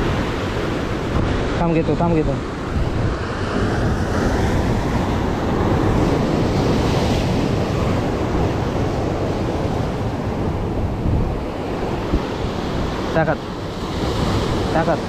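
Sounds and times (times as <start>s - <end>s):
sea surf breaking on rocks: 0.0s - 15.0s
wind buffeting microphone: 0.0s - 15.0s.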